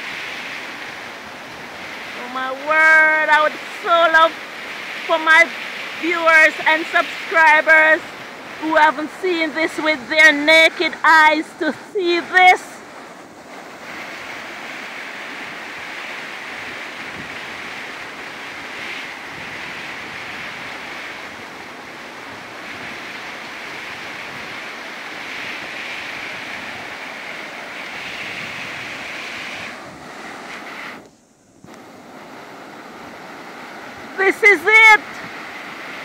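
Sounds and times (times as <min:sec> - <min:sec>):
waterfall splashing over rocks: 0:00.0 - 0:31.0, 0:31.7 - 0:36.0.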